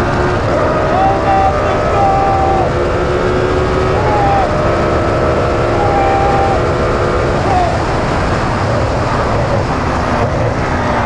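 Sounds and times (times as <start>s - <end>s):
racing car engine: 0.0s - 11.0s
wind and road noise: 0.0s - 11.0s.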